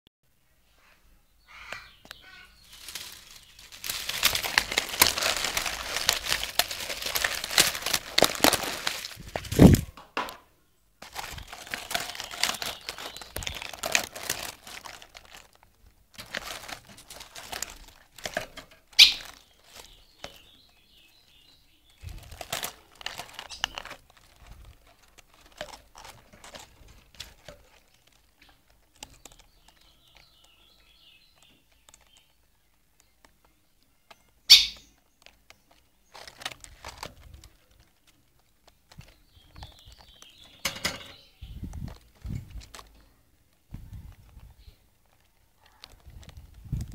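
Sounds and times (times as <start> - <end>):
nestlings cheeping: 1.7 - 9.8, 11.0 - 46.5
handling rustling and clattering: 2.6 - 10.4, 11.0 - 30.5, 33.0 - 46.9.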